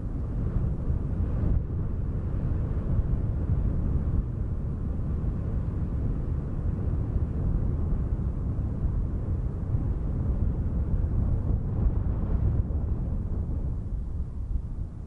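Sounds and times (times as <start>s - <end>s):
deep wind noise: 0.0s - 15.0s.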